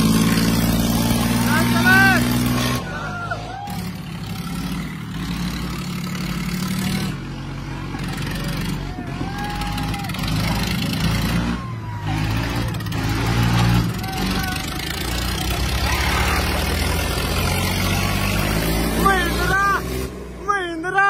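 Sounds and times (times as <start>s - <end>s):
diesel tractor engine under load: 0.0s - 21.0s
onlookers shouting: 0.5s - 4.8s, 7.8s - 21.0s.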